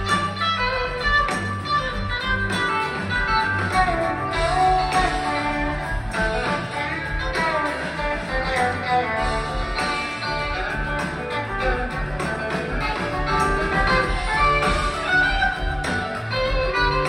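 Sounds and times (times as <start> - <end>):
electric guitars: 0.0 - 17.0
live rock band playing: 0.0 - 17.0.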